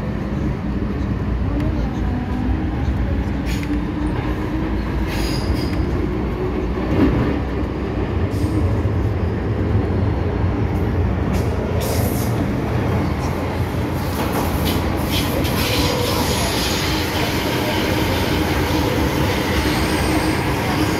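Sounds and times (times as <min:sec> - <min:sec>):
train wheels and motors rumbling: 0:00.0 - 0:20.9.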